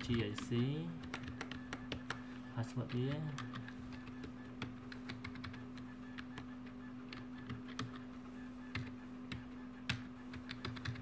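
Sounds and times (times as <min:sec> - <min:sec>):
keyboard keys clicking: 0:00.0 - 0:02.2, 0:02.8 - 0:06.5, 0:07.1 - 0:08.0, 0:08.7 - 0:11.0
steady low hum: 0:00.0 - 0:11.0.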